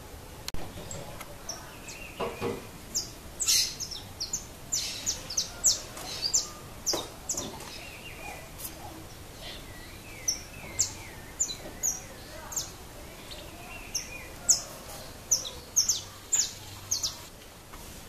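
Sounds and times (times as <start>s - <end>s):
finch chirping: 0.7s - 17.3s.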